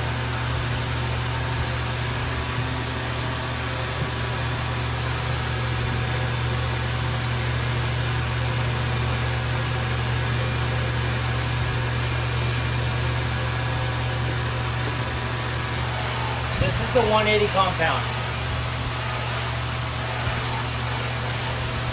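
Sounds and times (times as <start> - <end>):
electric motor humming: 0.0 - 21.9.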